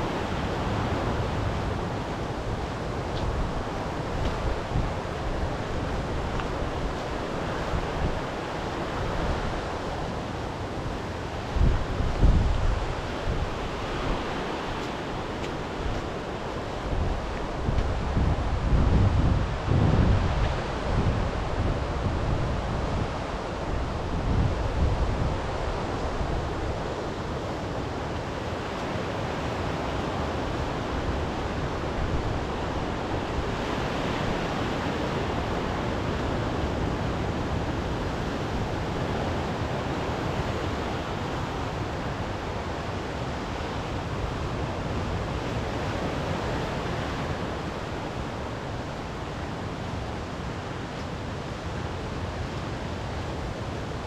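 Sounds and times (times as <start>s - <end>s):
wind buffeting microphone: 0.0s - 49.5s
waves washing on shore: 0.0s - 54.0s.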